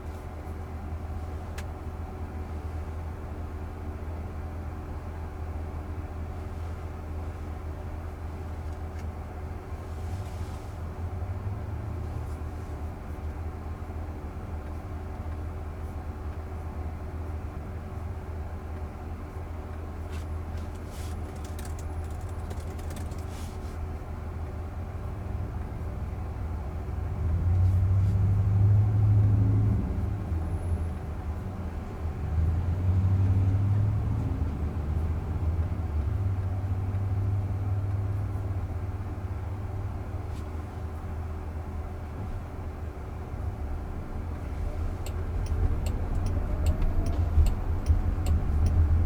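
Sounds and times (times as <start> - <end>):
road and tyre noise in car cabin: 0.0 - 49.0.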